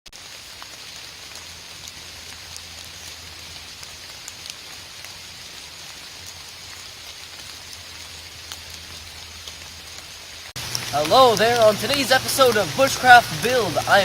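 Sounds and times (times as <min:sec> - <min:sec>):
steady rain hiss: 0:00.1 - 0:14.0
raindrop ticks: 0:00.2 - 0:14.0.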